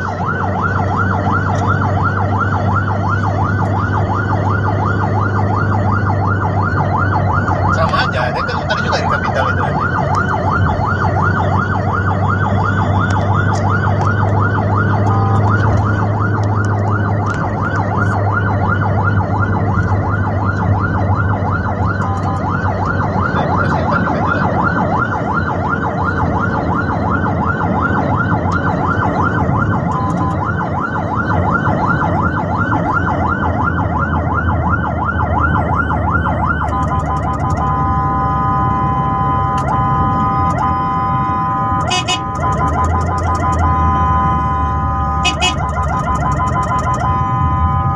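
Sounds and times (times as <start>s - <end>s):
emergency siren yelping: 0.0s - 47.9s
vehicle engine and tyres drone: 0.0s - 47.9s.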